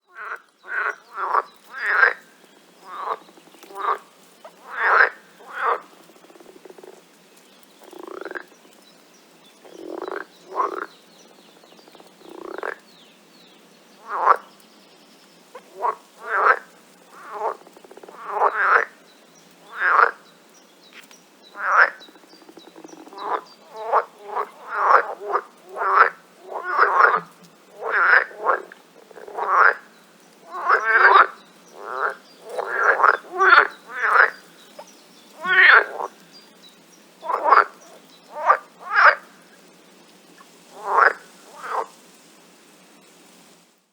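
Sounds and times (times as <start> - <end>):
frogs croaking: 0.0 - 42.1.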